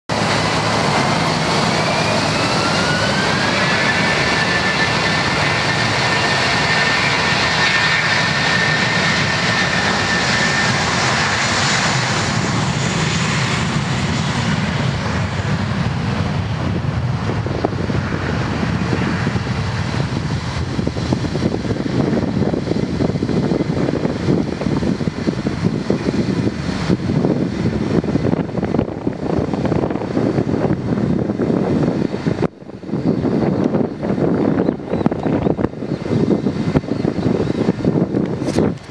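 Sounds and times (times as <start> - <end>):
jet engines at takeoff power: 0.1 - 38.9.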